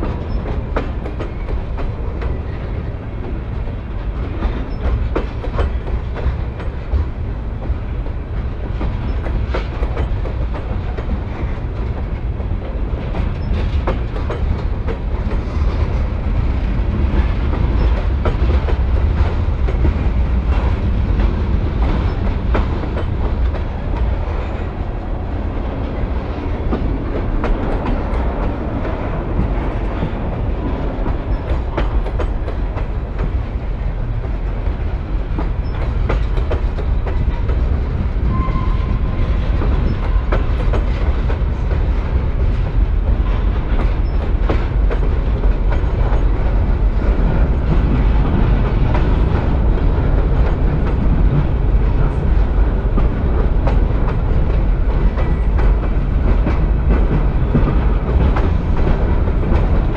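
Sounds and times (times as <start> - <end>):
freight train rumbling past: 0.0 - 59.9
train cars clattering over rail joints: 0.0 - 59.9.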